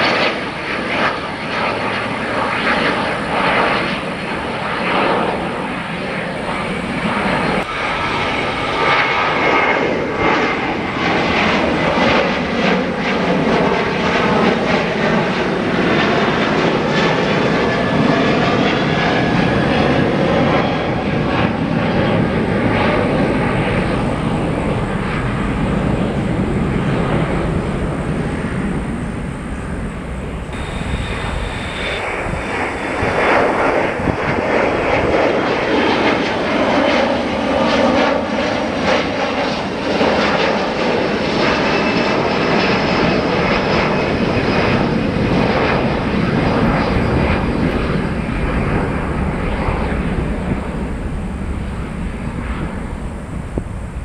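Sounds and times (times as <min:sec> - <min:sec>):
jet airliner climbing: 0:00.0 - 0:54.0.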